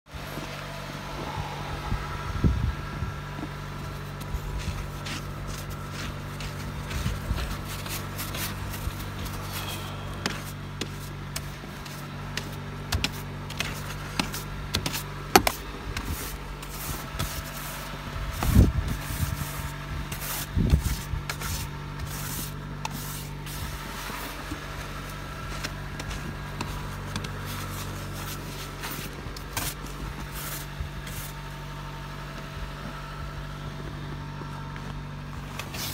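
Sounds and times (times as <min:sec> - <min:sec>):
car engine idling: 0:00.1 - 0:35.9
snow brush sweeping windshield: 0:00.1 - 0:35.9.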